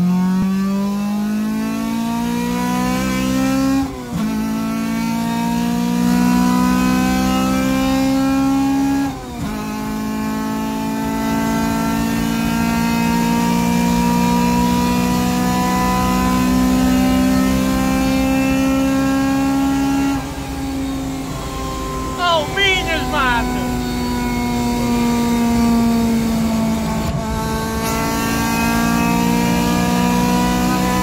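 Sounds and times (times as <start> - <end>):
car engine accelerating: 0.0 - 22.2, 23.4 - 31.0.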